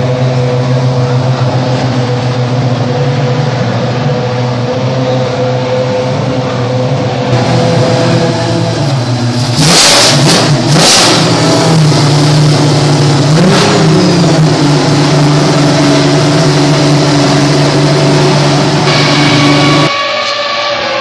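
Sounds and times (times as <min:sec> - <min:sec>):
racing engine idling: 0:00.0 - 0:20.6
engine throttle blips: 0:00.0 - 0:21.0.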